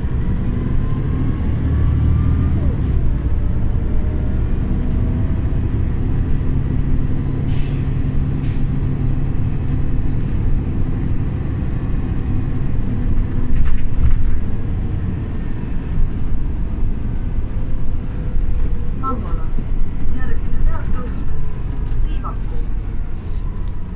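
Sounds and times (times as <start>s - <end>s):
bus engine and road rumble: 0.0s - 23.9s.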